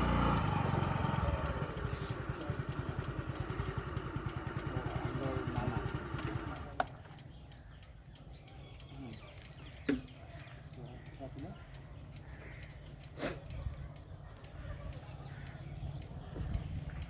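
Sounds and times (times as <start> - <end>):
motorcycle engine putter: 0.0 - 17.0.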